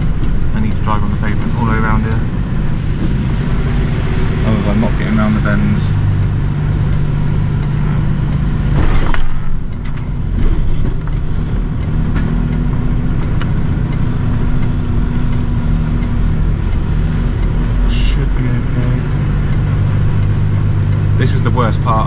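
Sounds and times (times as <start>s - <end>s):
lorry diesel engine running: 0.0s - 22.0s.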